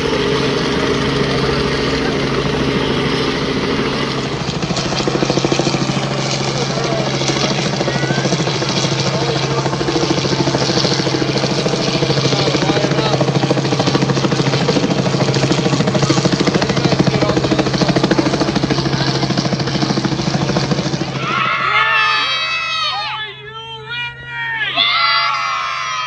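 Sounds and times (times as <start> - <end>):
helicopter engine drone: 0.0 - 23.3
helicopter rotor beat: 0.0 - 23.3.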